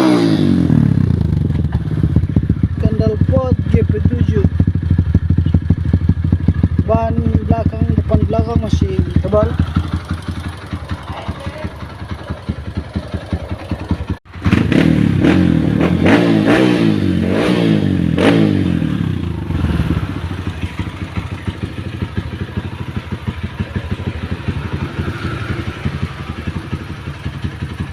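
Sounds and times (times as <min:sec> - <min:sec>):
dirt bike engine idling and revving: 0:00.0 - 0:27.9.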